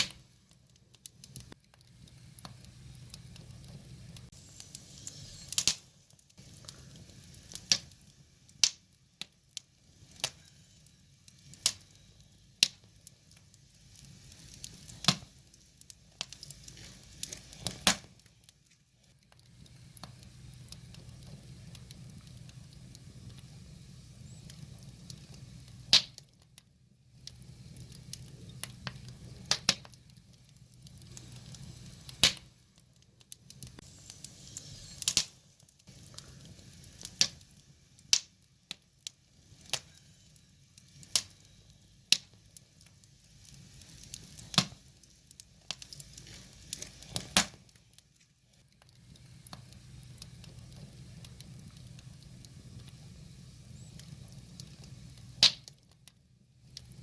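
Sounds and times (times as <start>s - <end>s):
firewood logs crackling: 0.0s - 57.0s.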